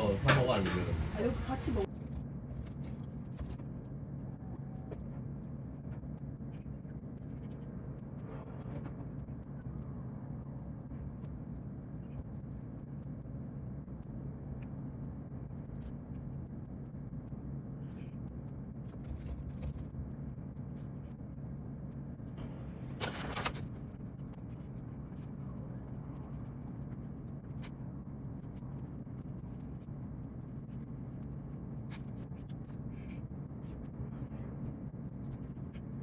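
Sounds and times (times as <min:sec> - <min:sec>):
low machine hum: 0:00.0 - 0:36.0.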